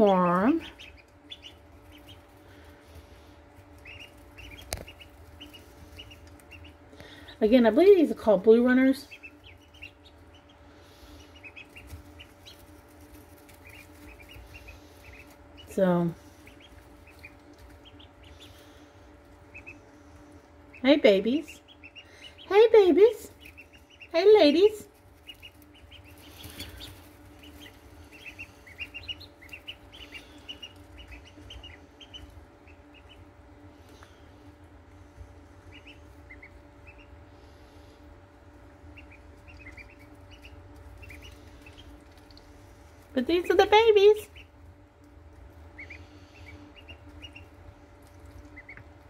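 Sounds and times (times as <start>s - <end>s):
ducklings peeping: 0.0s - 49.0s
faint steady hum: 0.0s - 49.0s.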